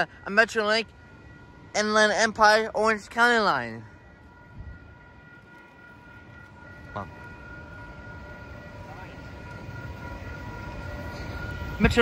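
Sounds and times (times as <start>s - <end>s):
high ringing tones: 0.0s - 12.0s
train rumble: 0.0s - 12.0s.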